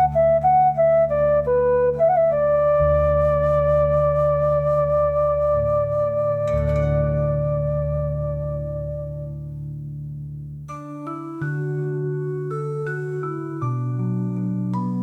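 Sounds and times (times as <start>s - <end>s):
flute-like melody: 0.0s - 9.5s, 10.9s - 15.0s.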